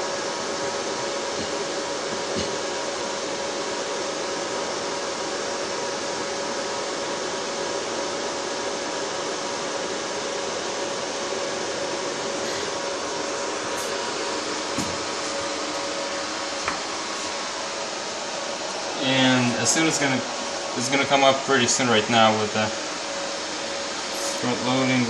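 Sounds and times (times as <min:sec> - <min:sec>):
server cooling fans running: 0:00.0 - 0:25.0.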